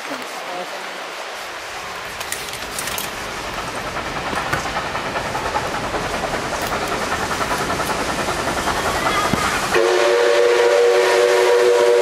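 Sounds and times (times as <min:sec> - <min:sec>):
steam locomotive chuffing: 0:01.4 - 0:12.0.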